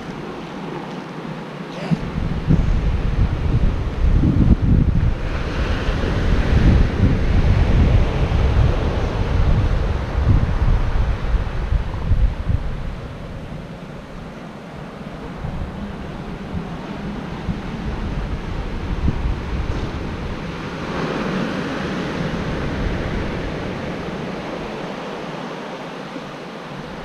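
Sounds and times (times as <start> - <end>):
ocean surf washing onto beach: 0.0 - 27.0
wind gusting on microphone: 0.0 - 27.0.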